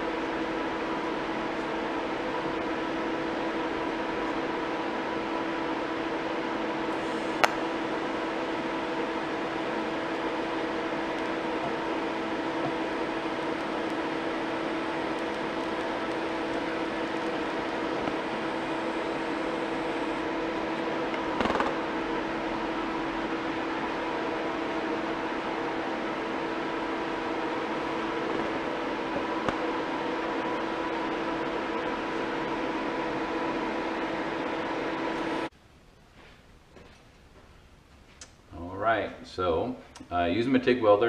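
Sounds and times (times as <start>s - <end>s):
welding machine hum: 0.0s - 35.5s.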